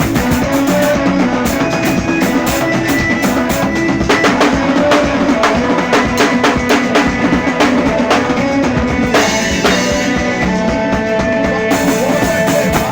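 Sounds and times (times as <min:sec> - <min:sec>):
drum kit fast groove: 0:00.0 - 0:12.9
held musical tones: 0:00.0 - 0:12.9.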